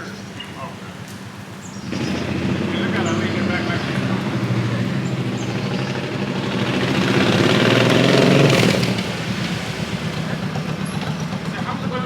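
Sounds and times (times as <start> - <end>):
vehicle engine passing by: 1.8 - 12.0.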